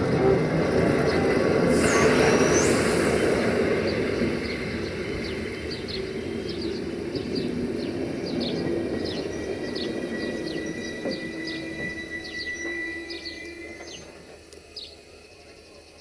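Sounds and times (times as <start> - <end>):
train coaches rolling on rails: 0.0 - 16.0
birds chirping: 0.8 - 16.0.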